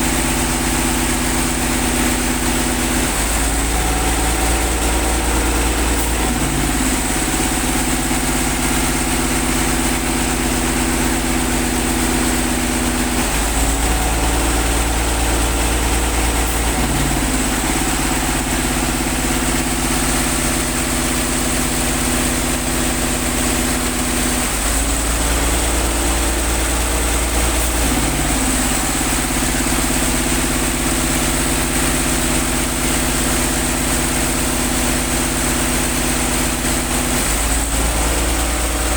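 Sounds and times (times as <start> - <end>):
air compressor engine running: 0.0 - 38.9.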